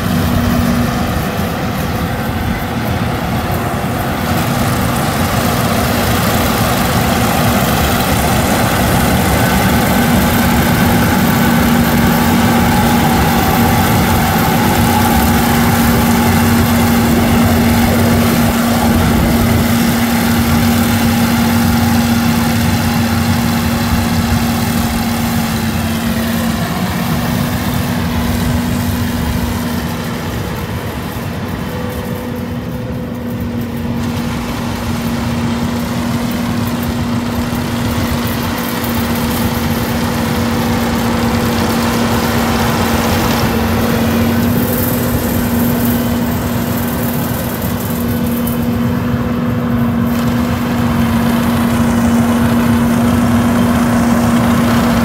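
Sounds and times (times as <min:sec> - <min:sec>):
combine harvester engine drone: 0:00.0 - 0:55.0
threshing machinery rushing: 0:00.0 - 0:55.0.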